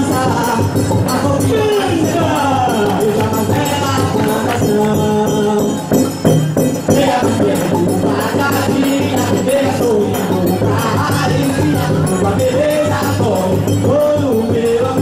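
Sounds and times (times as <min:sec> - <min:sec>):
folk dance music: 0:00.0 - 0:15.0.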